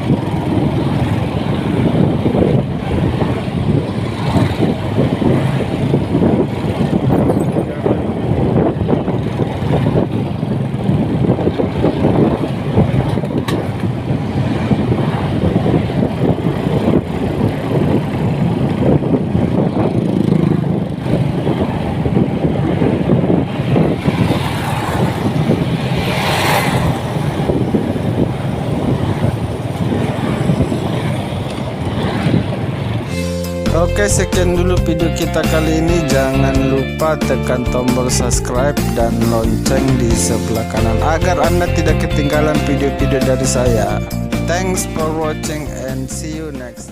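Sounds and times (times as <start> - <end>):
motorcycle riding noise: 0.0 - 46.9.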